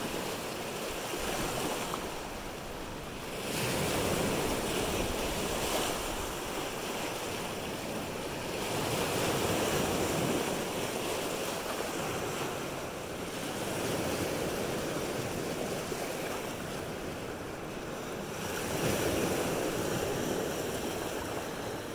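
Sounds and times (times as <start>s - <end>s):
surf washing onto shoreline: 0.0s - 21.9s
wind: 0.0s - 21.9s.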